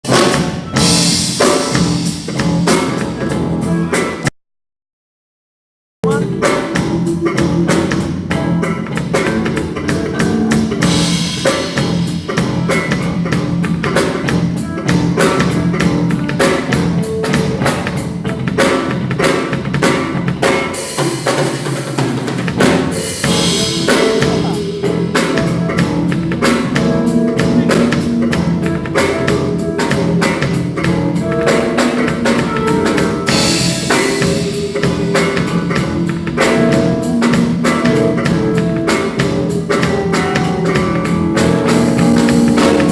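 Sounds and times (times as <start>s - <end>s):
bass: 0.0s - 4.3s, 6.0s - 42.9s
drum kit beat: 0.0s - 4.3s, 6.0s - 42.9s.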